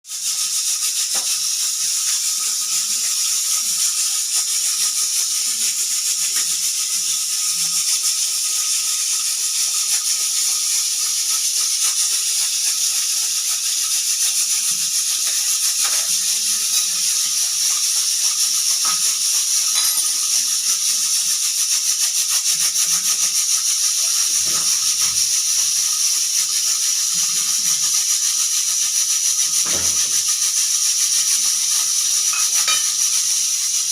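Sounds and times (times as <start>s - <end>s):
pressure cooker whistle hissing: 0.1s - 33.9s.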